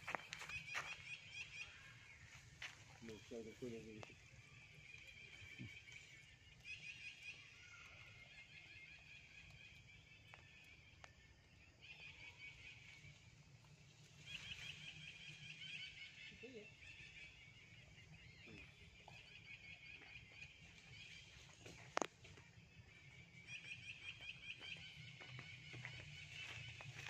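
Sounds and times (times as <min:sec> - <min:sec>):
small animals chirping and trilling: 0:00.0 - 0:27.0.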